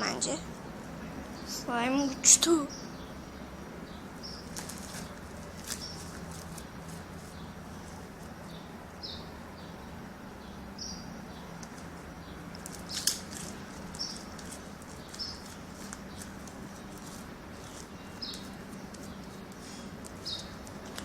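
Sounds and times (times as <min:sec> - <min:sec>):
steady low hum: 0:00.0 - 0:21.0
small bird chirping: 0:00.3 - 0:21.0.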